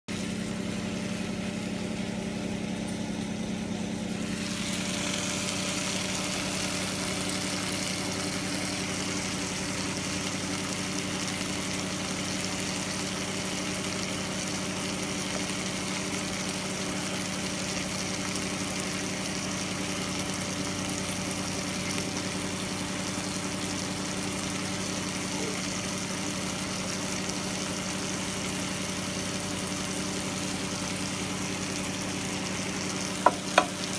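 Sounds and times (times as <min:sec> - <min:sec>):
electric hum: 0:00.1 - 0:33.9
food sizzling in grill pan: 0:00.1 - 0:33.9.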